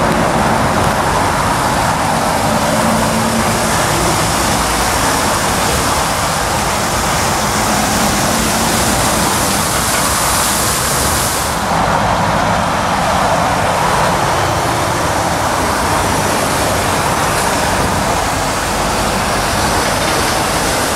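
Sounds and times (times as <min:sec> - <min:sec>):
diesel truck engines running: 0:00.0 - 0:20.9
traffic rush: 0:00.0 - 0:20.9.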